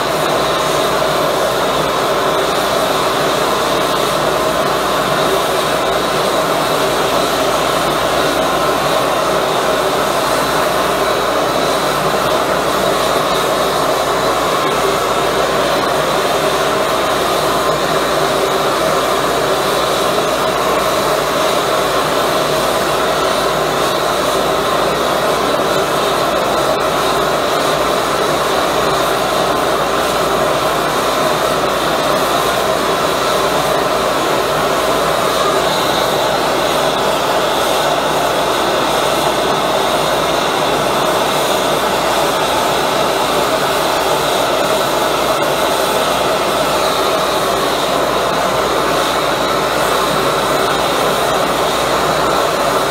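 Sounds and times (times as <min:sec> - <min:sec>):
propane burner roaring: 0:00.0 - 0:52.9.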